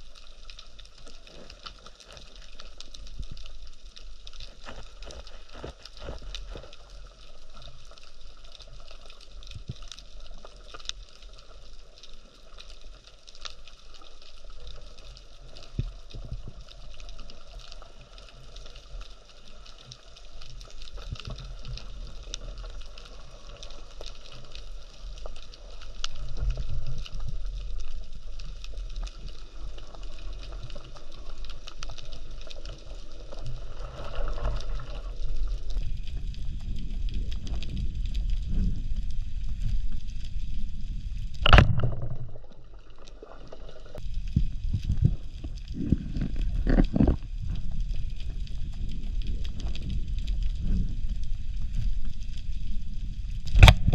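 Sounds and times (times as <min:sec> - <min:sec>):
low rumble of moving water: 0:00.0 - 0:53.9
underwater crackle of clicks: 0:00.0 - 0:53.9.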